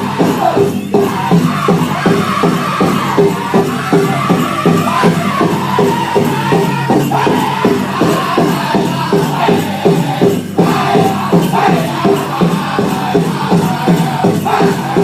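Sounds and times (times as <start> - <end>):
fast beat on big drum: 0.0 - 15.0
men singing: 0.0 - 15.0.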